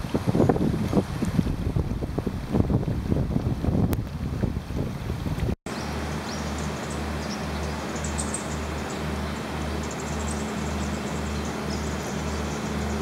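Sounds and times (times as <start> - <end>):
pulsing low hum: 0.0 - 13.0.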